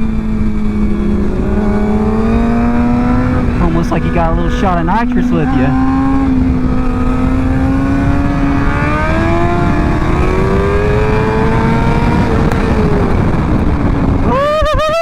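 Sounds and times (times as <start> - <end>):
motorcycle engine accelerating: 0.0 - 14.9
wind rumble on microphone: 0.0 - 15.0.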